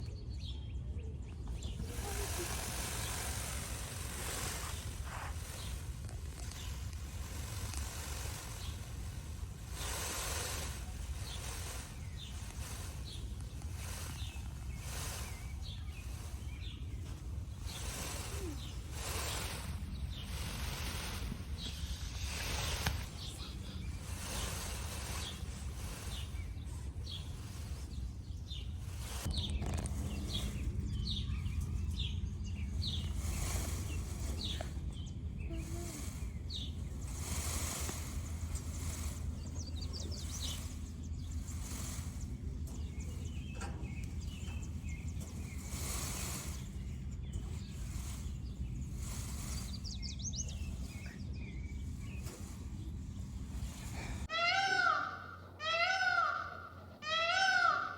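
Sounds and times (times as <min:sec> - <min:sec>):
low rumble: 0:00.0 - 0:54.4
small birds chirping: 0:00.0 - 0:57.9
peacock feathers rustling: 0:01.4 - 0:57.9.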